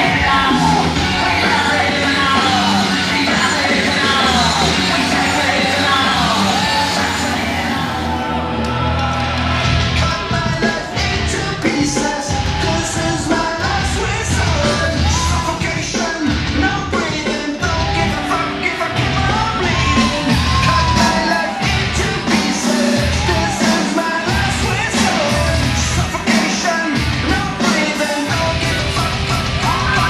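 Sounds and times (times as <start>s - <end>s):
live rock music: 0.0s - 30.0s
person singing and yelling: 0.0s - 30.0s.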